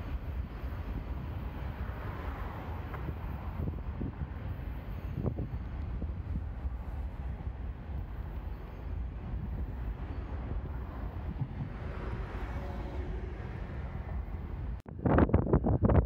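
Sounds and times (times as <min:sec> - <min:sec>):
distant freight train rumble: 0:00.0 - 0:16.0
wind buffeting microphone: 0:00.0 - 0:16.0.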